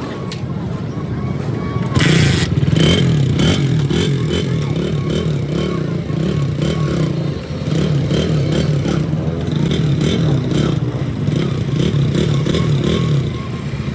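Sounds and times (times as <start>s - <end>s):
small motorcycle engine: 1.8s - 13.9s.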